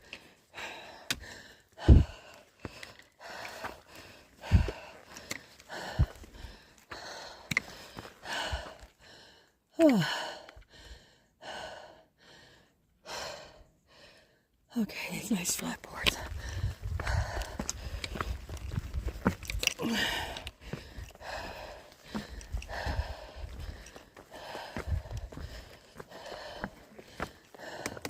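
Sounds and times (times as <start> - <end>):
heavy laboured breathing: 0.0 - 15.2, 15.9 - 28.0.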